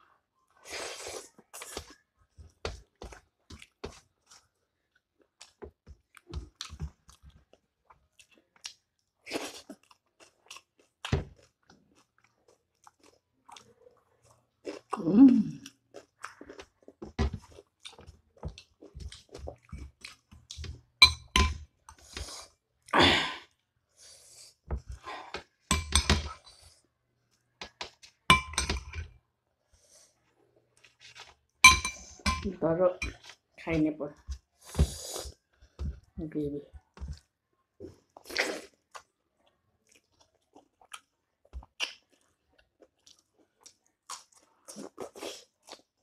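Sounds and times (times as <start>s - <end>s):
person chewing and crunching food: 0.0s - 29.1s, 29.8s - 33.6s, 36.8s - 46.0s.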